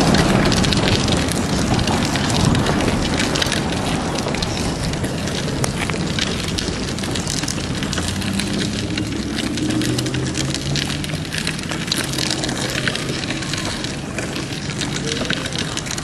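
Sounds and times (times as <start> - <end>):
low rumble: 0.0 - 15.1.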